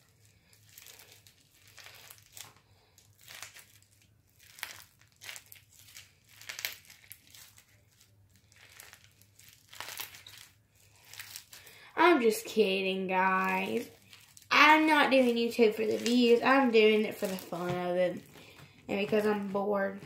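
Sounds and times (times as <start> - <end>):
bead slime crackling crunches: 0.0 - 19.7.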